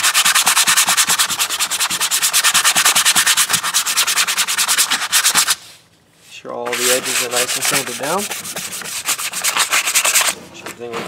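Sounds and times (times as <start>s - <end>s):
sandpaper rubbing on wood: 0.0s - 5.7s, 6.7s - 10.4s.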